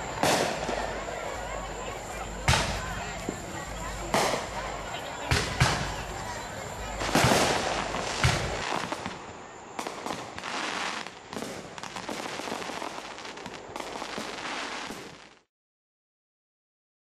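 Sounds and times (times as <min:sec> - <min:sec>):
firework bangs and pops: 0:00.0 - 0:15.5
firework booms: 0:00.0 - 0:15.5.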